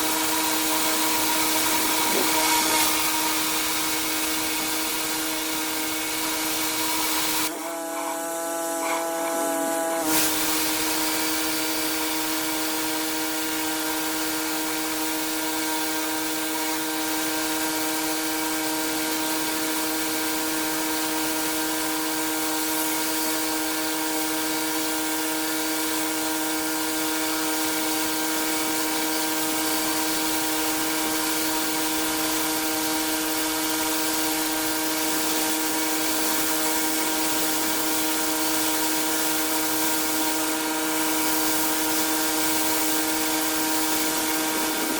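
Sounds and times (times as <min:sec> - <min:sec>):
high-pressure water spray hissing: 0:00.0 - 0:44.9
pressure washer drone: 0:00.0 - 0:44.9.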